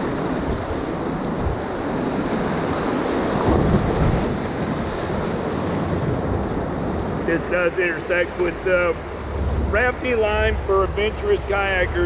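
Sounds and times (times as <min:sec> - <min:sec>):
rushing whitewater: 0:00.0 - 0:12.0
wind buffeting microphone: 0:00.0 - 0:12.0.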